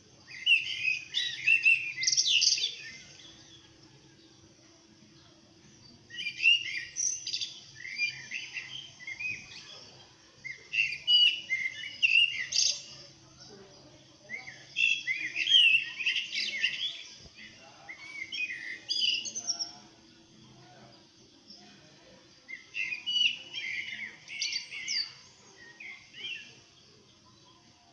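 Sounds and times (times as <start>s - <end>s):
small songbirds chirping: 0.0s - 27.9s.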